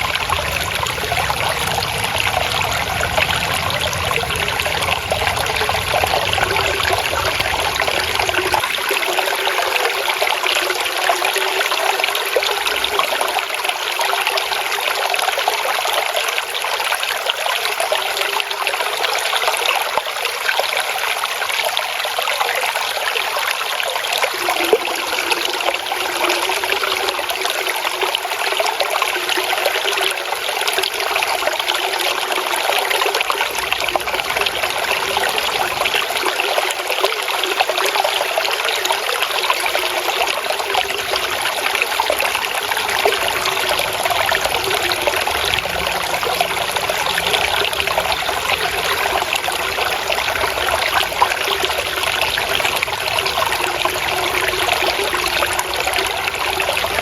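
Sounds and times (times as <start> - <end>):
water trickling and babbling: 0.0 - 57.0.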